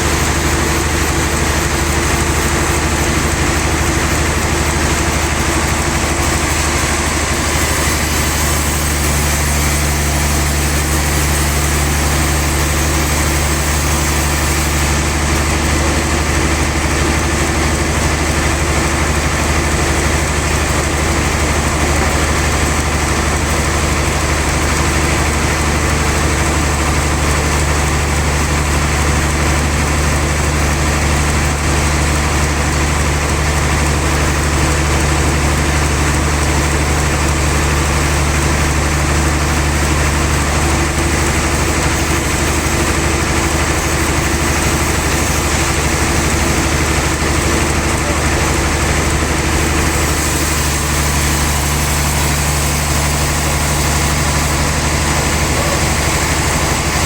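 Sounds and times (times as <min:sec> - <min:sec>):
log-sawing machine humming: 0:00.0 - 0:57.0.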